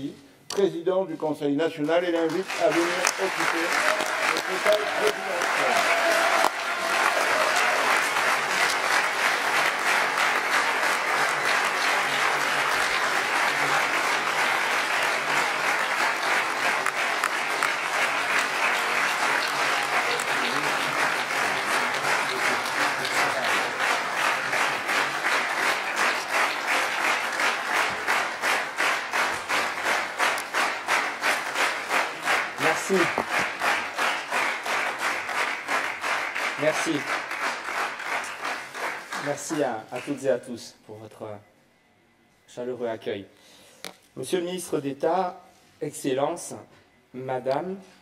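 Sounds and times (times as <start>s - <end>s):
audience applauding: 1.8s - 40.3s.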